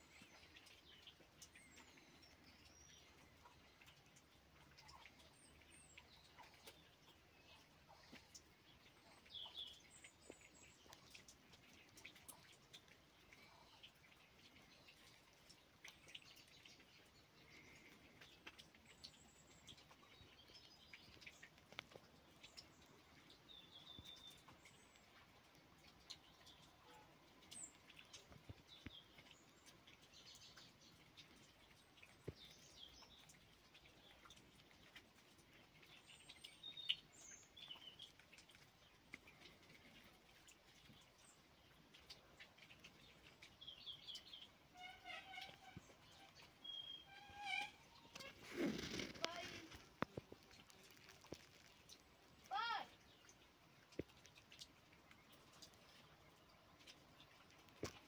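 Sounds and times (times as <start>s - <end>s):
small birds chirping: 0.0s - 58.0s
soft ticks and taps: 0.1s - 44.6s, 48.1s - 58.0s.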